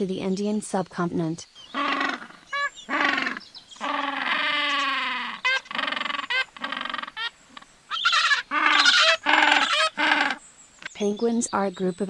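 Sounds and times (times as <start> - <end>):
large bird calling: 1.4 - 12.0.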